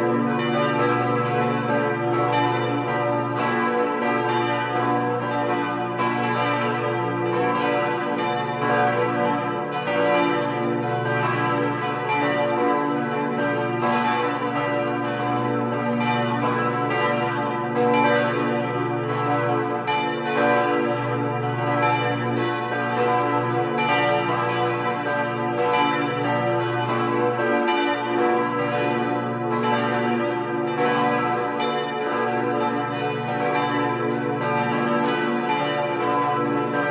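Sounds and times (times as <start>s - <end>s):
church bells ringing: 0.0s - 36.9s.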